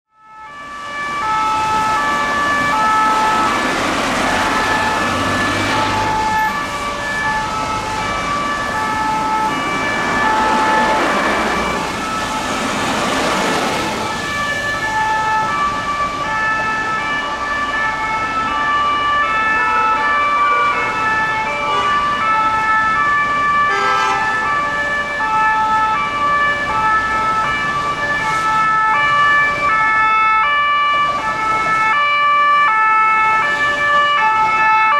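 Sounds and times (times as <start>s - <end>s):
city traffic noise: 0.1s - 34.9s
two-tone fire truck sirens: 0.1s - 34.9s.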